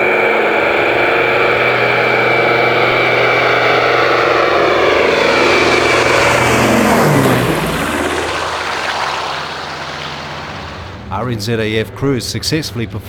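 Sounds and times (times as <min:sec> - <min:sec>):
propeller aircraft passing overhead: 0:00.0 - 0:13.0.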